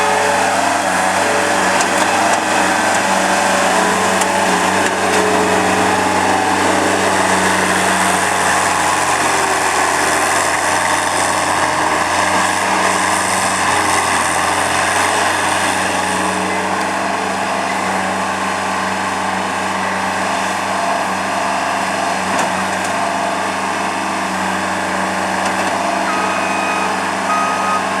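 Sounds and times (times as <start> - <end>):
skid steer engine running: 0.0 - 28.0.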